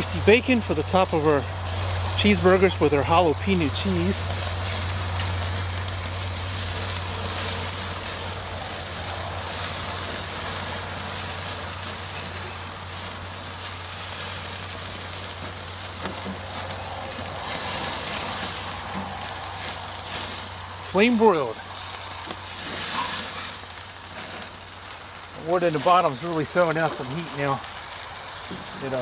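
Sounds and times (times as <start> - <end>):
meat sizzling on grill: 0.0 - 29.0.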